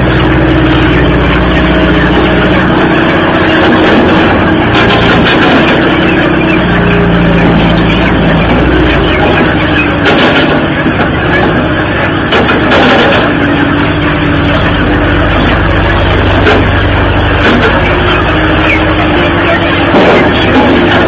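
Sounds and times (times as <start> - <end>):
engine running loudly: 0.0 - 21.0.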